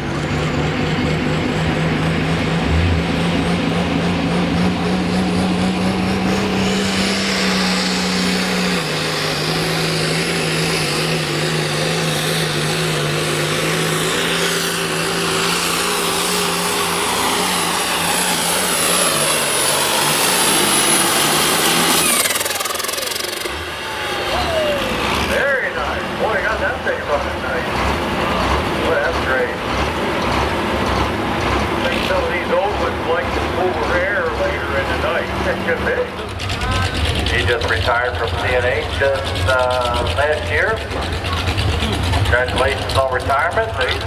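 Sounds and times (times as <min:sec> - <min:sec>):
tractor engine running hard: 0:00.0 - 0:44.0.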